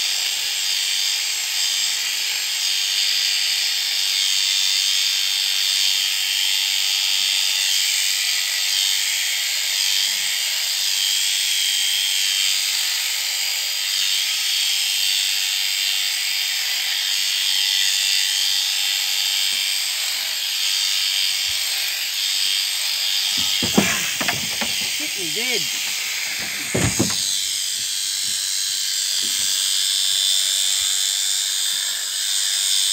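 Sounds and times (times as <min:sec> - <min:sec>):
electric shears buzzing: 0:00.0 - 0:32.9.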